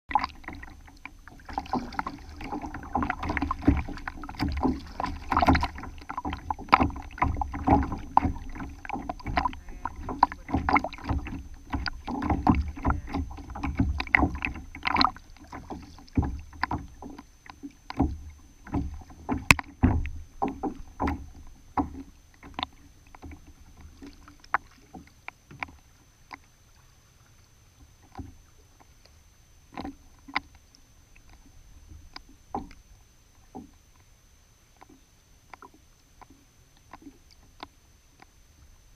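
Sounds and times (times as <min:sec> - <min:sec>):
water slapping against kayak hull: 0:00.1 - 0:33.9.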